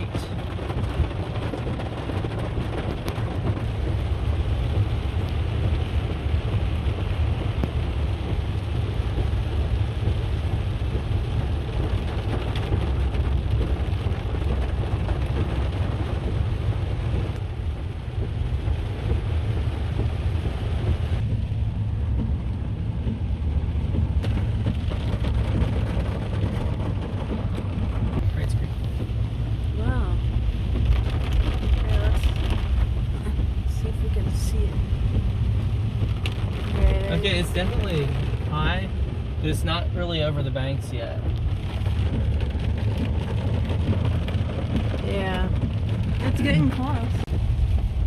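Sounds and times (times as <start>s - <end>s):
low rumble of car: 0.0s - 48.0s
water spray hissing from tyres: 0.0s - 48.0s.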